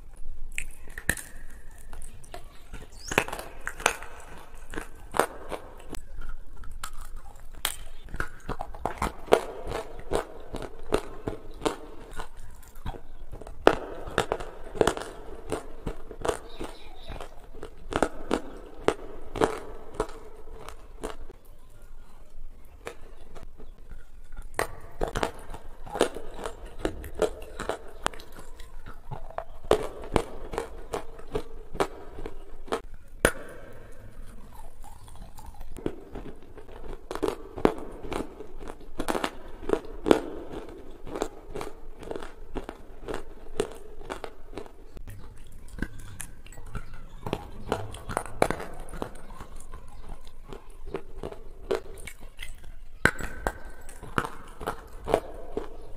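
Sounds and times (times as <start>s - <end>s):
chewing with mouth smacks: 0.1s - 55.9s.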